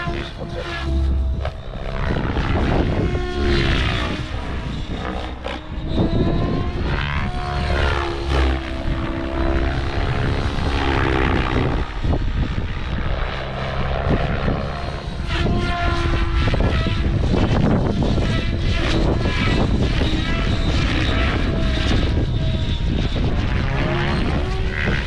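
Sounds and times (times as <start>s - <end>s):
model helicopter rotor whine: 0.0s - 25.0s
wind buffeting microphone: 0.0s - 25.0s.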